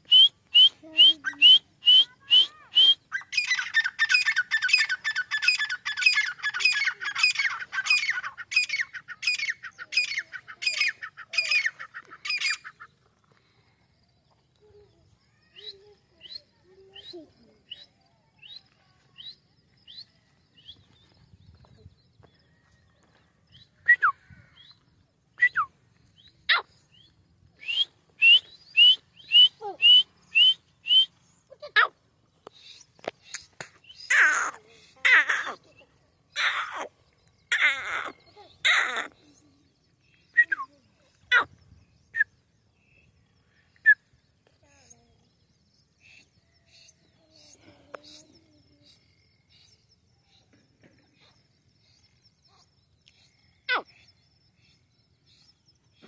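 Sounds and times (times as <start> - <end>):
francolin calling: 0.0 - 56.0.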